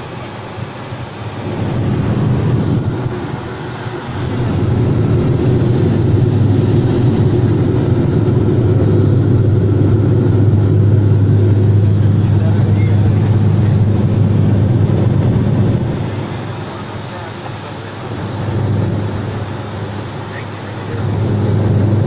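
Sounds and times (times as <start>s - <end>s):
airplane cabin engine drone: 0.0s - 22.0s.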